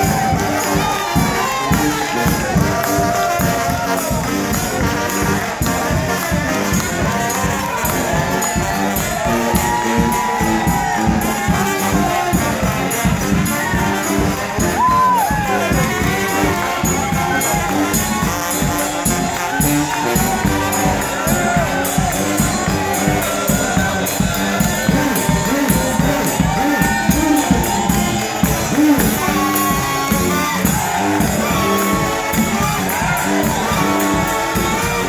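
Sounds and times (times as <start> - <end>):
brass horns: 0.0 - 35.0
driving drum beat: 0.0 - 35.0.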